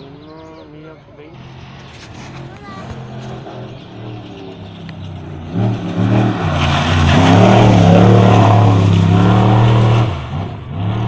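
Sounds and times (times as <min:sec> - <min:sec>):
truck engine at high revs: 0:01.4 - 0:11.0.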